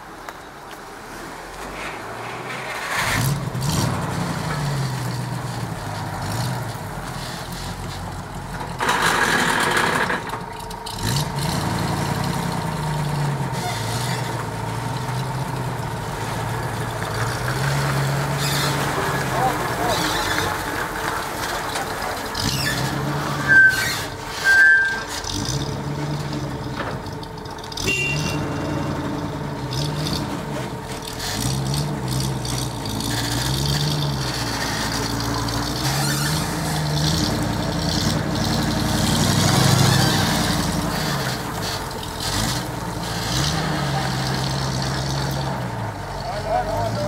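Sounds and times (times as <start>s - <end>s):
machinery engine running: 2.9s - 47.0s.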